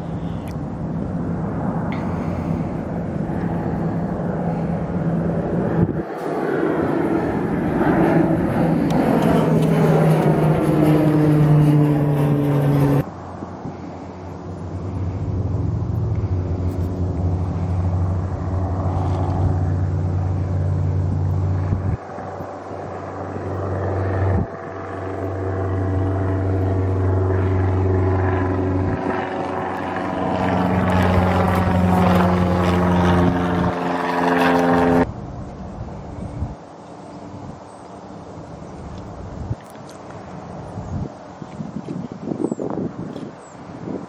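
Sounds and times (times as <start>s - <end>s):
propeller plane droning overhead: 0.0s - 44.0s.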